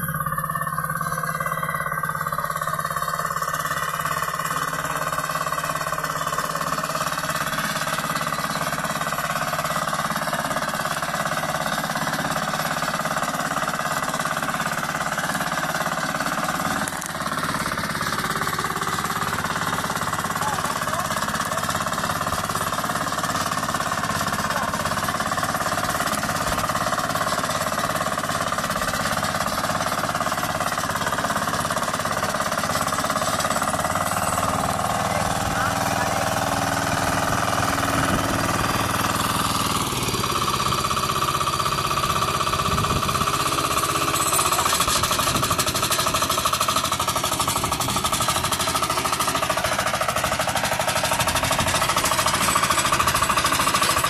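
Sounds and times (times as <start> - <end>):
tiller engine running: 0.0 - 54.0.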